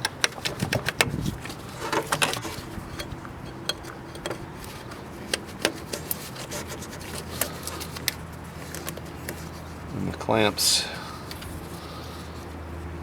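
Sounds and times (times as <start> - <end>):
rubber hoses rubbing and scraping: 0.3 - 13.0.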